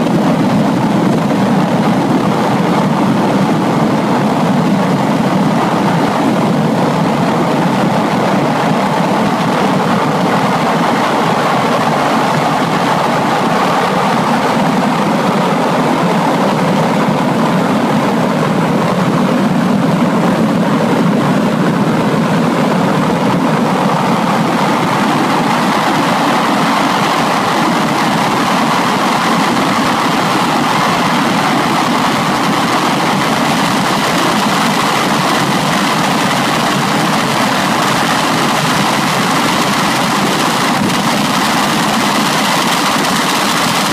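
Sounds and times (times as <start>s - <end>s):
jet engines rushing with high whine: 0.0s - 43.9s.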